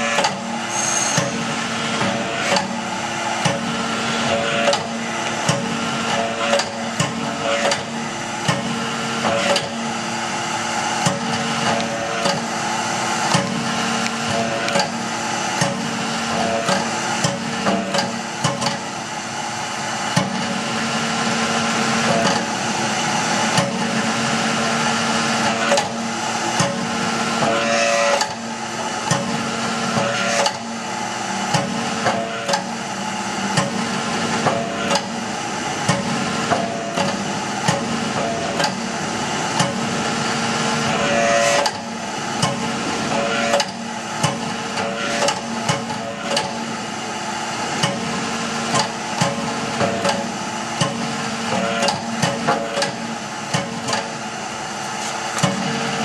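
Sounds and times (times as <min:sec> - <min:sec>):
forging press humming: 0:00.0 - 0:56.0.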